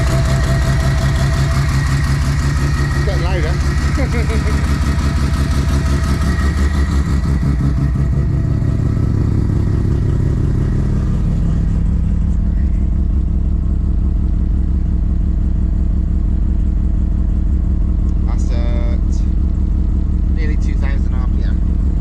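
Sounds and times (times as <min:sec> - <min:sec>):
rotary engine idling: 0:00.0 - 0:22.0.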